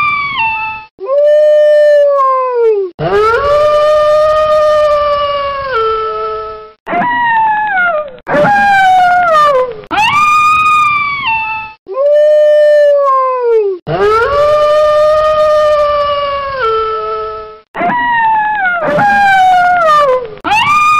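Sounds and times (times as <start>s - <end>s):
wolf howling: 2.0s - 11.8s, 13.9s - 20.9s.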